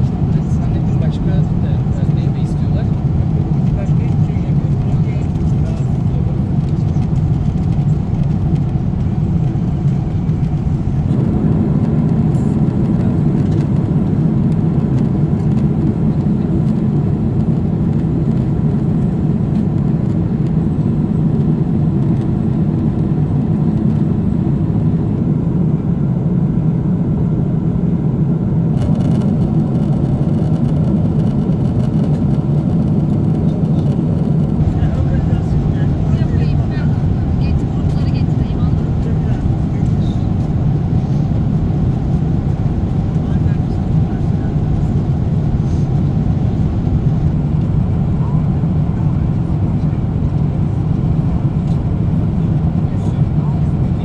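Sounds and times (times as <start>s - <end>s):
airflow rush in airplane cabin: 0.0s - 54.0s
jet engine drone: 0.0s - 54.0s.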